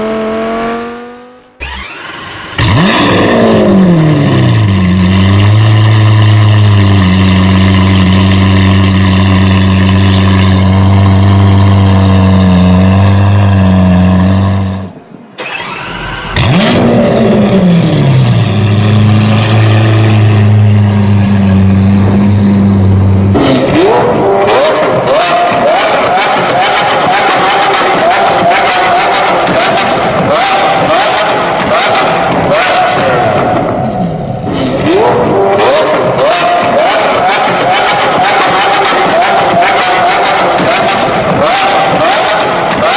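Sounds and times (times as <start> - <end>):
engine starting and revving: 0.0 - 42.9
exhaust cracks: 1.6 - 42.9.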